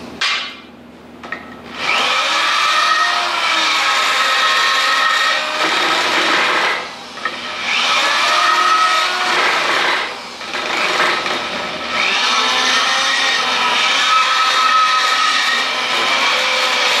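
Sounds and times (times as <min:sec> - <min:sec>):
electric drill boring into steel: 0:01.7 - 0:17.0.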